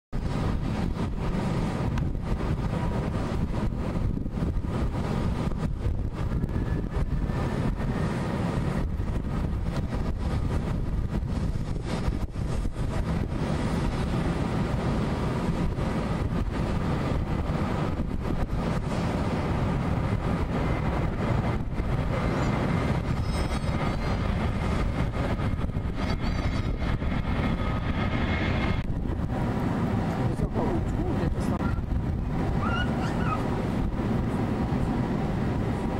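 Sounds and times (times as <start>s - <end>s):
jet engines taxiing: 0.2s - 35.9s.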